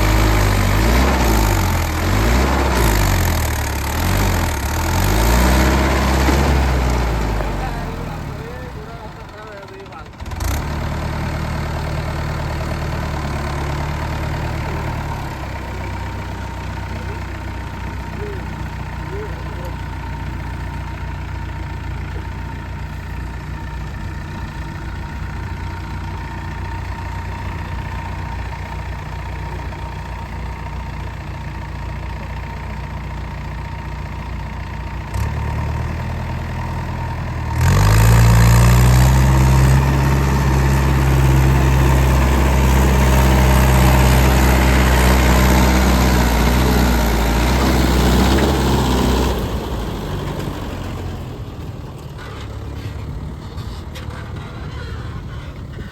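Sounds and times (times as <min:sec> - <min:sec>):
tractor diesel engine: 0:00.0 - 0:55.9.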